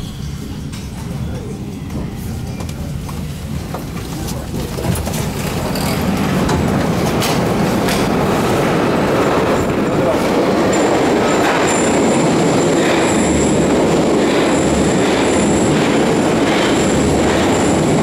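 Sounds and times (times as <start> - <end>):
metro train rumbling: 0.0 - 18.0
passengers chattering: 0.0 - 18.0.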